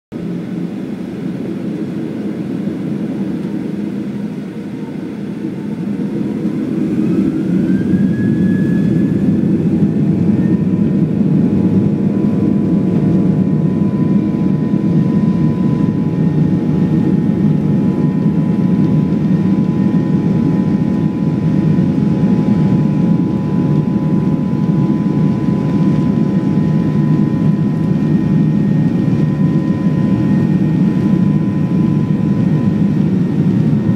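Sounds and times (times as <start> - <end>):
high engine whine: 0.2 - 33.9
jet engines spooling up: 0.2 - 33.9.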